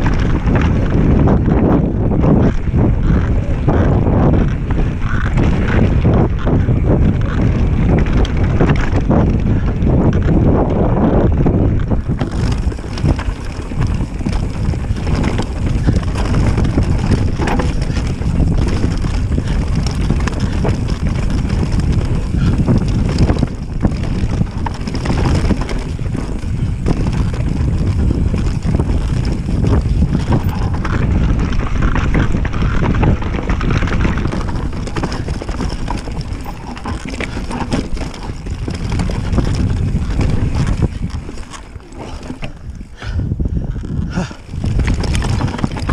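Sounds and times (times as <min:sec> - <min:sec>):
mountain bike rattling and knocking: 0:00.0 - 0:45.9
tyres rolling on rough dirt: 0:00.0 - 0:45.9
wind buffeting microphone: 0:00.0 - 0:45.9.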